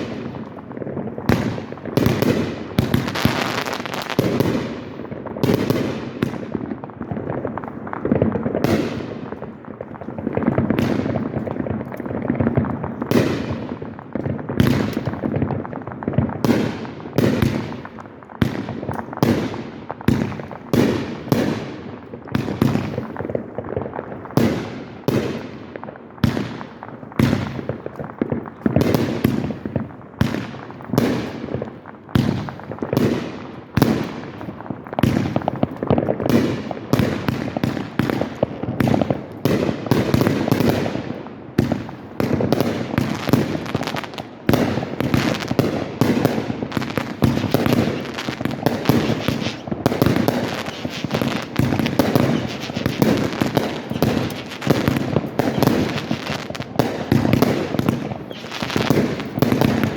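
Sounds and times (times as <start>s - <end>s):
fireworks bangs with rumbling echo: 0.0s - 59.9s.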